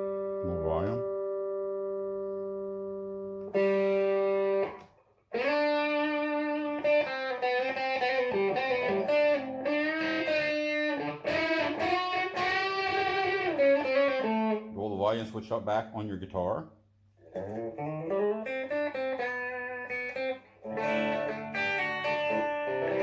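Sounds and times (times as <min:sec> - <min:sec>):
electric guitar melodic notes: 0:00.0 - 0:14.7, 0:17.3 - 0:23.0
electric guitar chords: 0:00.0 - 0:14.8, 0:17.3 - 0:23.0.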